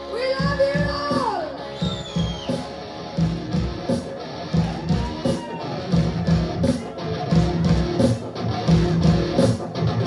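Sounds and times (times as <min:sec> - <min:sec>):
live band playing: 0:00.0 - 0:10.0.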